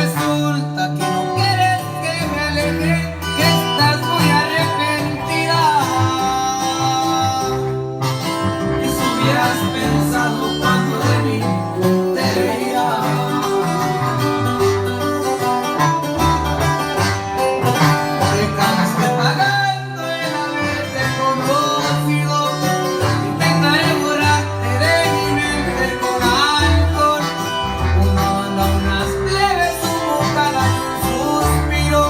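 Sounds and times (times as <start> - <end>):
bass line: 0.0 - 32.0
plucked guitar: 0.0 - 32.0
wavering melody possibly singing: 1.3 - 32.0.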